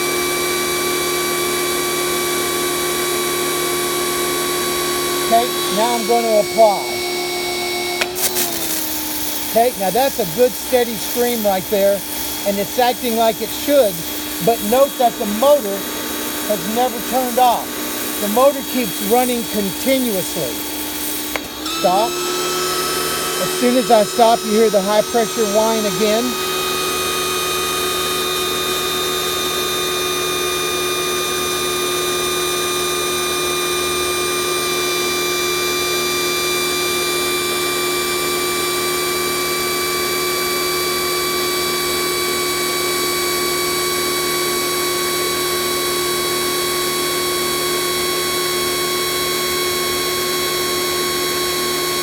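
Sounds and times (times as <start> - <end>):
pressure washer motor whining: 0.0 - 52.0.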